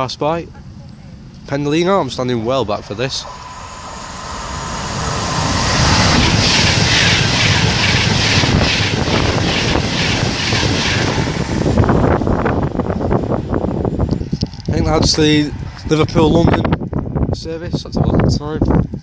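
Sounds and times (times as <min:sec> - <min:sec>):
electric train passing at speed: 0:00.0 - 0:19.0.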